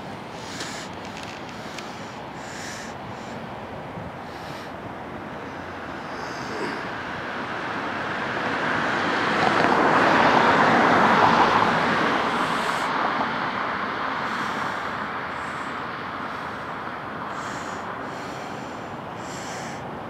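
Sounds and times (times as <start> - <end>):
vehicle tyre and road noise: 0.0 - 20.0.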